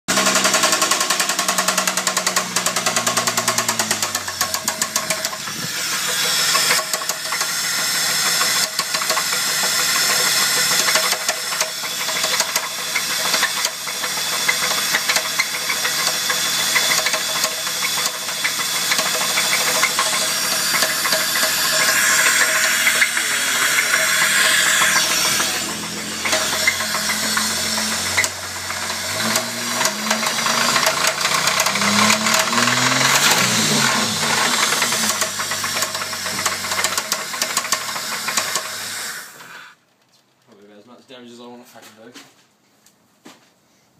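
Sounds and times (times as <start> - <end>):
car engine knocking: 0.1 - 39.1.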